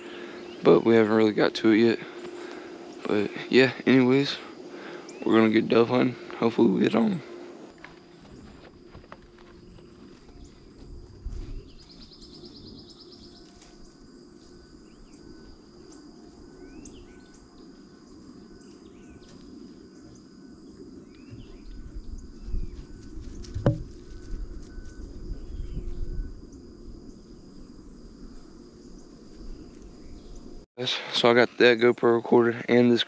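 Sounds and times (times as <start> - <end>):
insect buzzing trill: 0.0 - 30.7
insect drone: 0.0 - 33.0.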